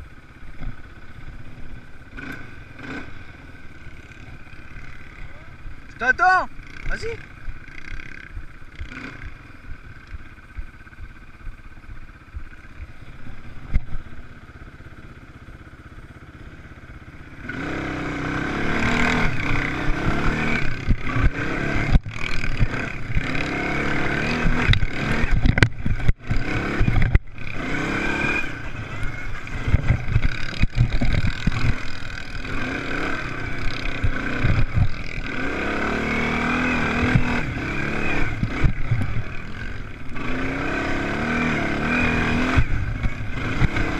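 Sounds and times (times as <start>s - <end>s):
motocross engines revving: 0.0s - 43.9s.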